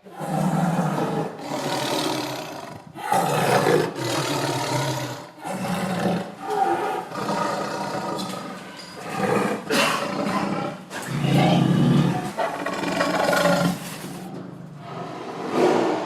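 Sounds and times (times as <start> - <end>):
big cat roaring: 0.0 - 16.0.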